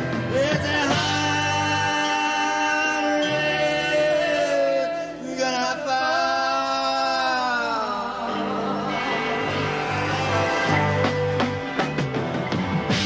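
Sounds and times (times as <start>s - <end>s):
man singing long held notes: 0.0s - 10.7s
live rock band: 0.0s - 13.0s.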